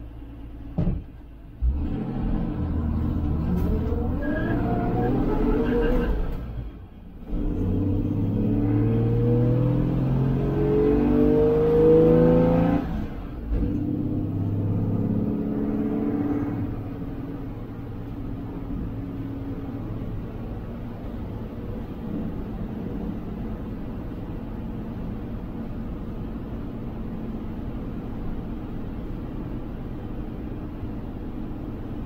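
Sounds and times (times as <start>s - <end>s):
van engine accelerating: 0.0s - 32.0s.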